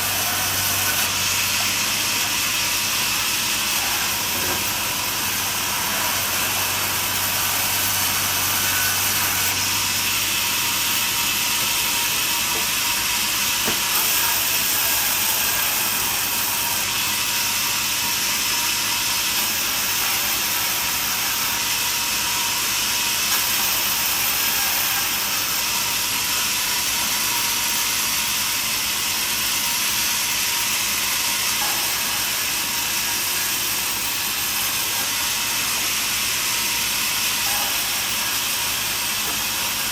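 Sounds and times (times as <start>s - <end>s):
band saw blade cutting wood: 0.0s - 39.9s.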